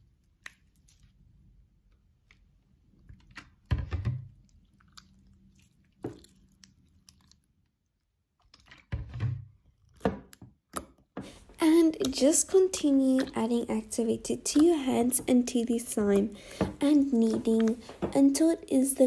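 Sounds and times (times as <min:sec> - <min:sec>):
slime squelching and popping: 0:00.0 - 0:18.4.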